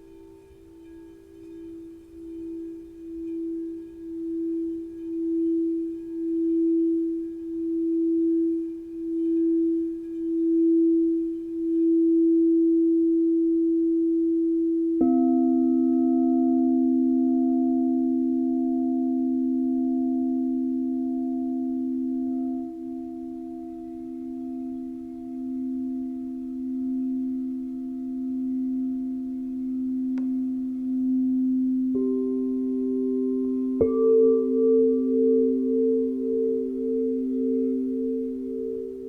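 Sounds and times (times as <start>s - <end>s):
crystal singing bowl tone: 0.0s - 39.0s
lower crystal bowl ringing: 0.0s - 39.0s.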